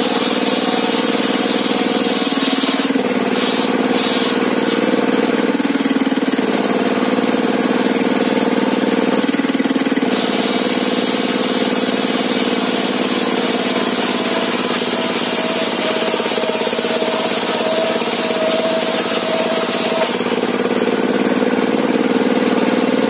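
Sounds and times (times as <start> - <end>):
table saw engine running: 0.0 - 23.0.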